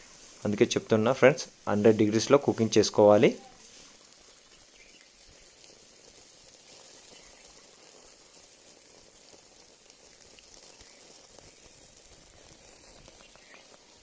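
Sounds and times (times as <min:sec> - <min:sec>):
fire crackles: 0:00.0 - 0:14.0
meat sizzling over a fire: 0:00.0 - 0:14.0.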